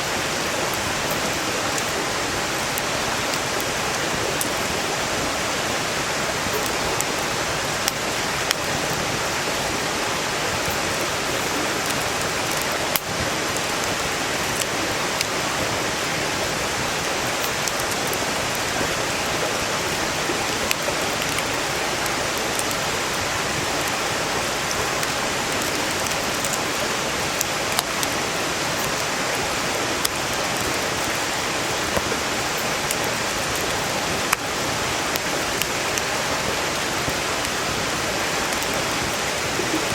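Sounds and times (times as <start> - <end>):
campfire crackling and popping: 0.0 - 39.9
stream water rushing: 0.0 - 39.9.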